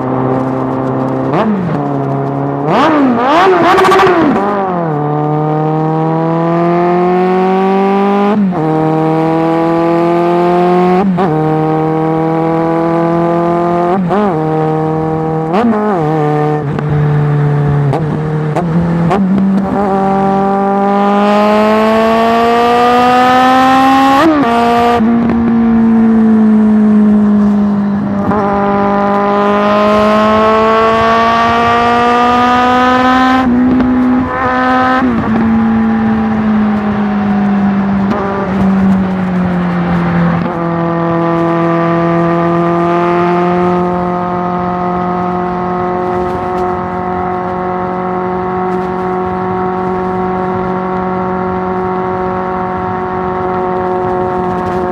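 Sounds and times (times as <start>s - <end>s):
motorcycle engine revving under load: 0.0s - 54.9s.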